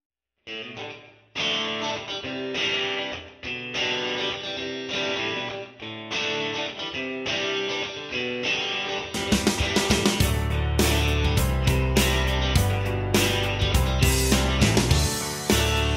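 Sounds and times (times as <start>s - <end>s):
guitar chords ringing: 0.5s - 15.9s.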